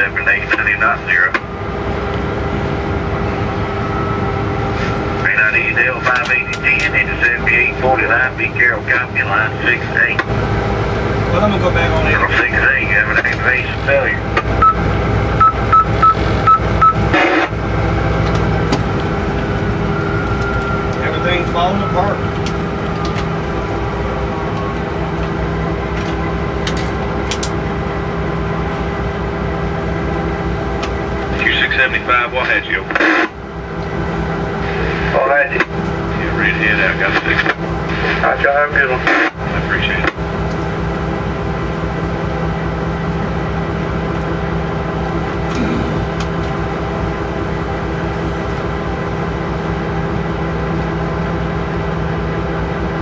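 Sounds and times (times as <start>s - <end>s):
locomotive engine running: 0.0s - 53.0s.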